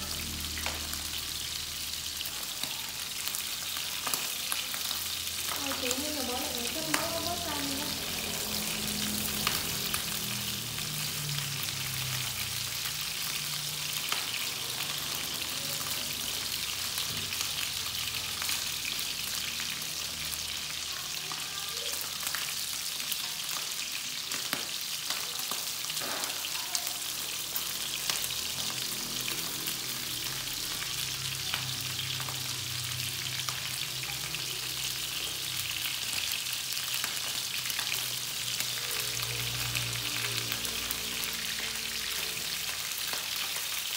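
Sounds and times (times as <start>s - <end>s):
ribs sizzling in a pan: 0.0s - 43.9s.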